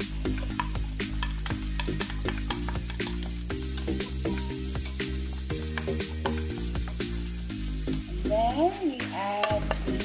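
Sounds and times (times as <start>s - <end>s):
onion and garlic sizzling in oil: 0.0s - 10.0s.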